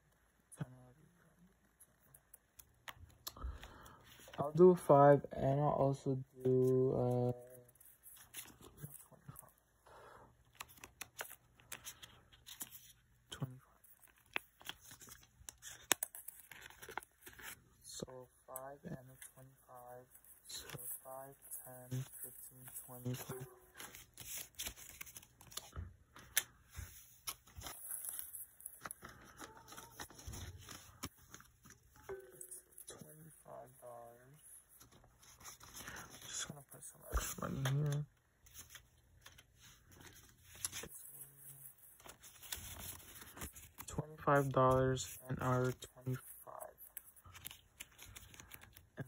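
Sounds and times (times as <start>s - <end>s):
paper envelopes rustling: 6.5s - 9.6s, 10.4s - 17.8s, 18.6s - 49.0s.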